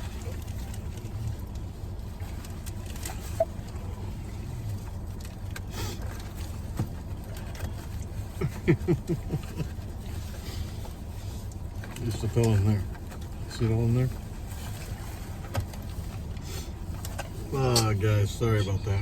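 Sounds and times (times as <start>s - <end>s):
car cabin hum: 0.0s - 19.0s.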